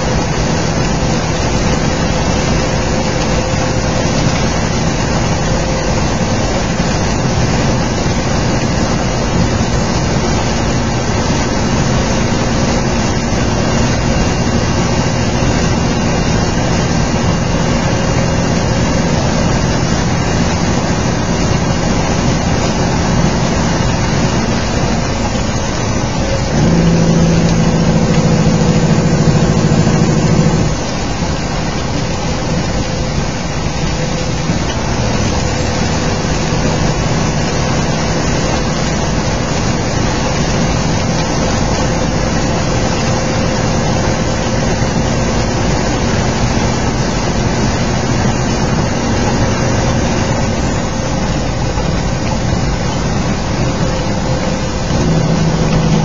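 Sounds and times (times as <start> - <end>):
diesel engine running: 0.0 - 56.0
heavy rain on truck cab: 0.0 - 56.0.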